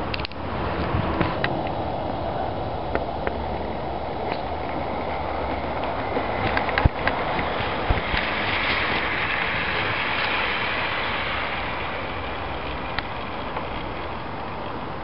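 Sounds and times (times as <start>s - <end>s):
model train running: 1.9s - 15.0s.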